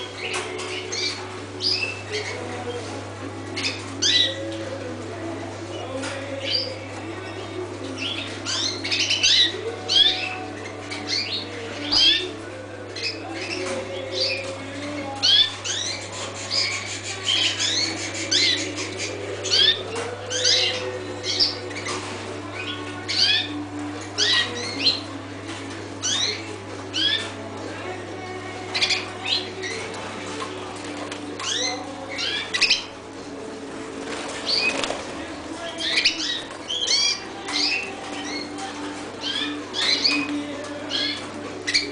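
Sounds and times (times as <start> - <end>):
canaries chirping: 0.0 - 41.9.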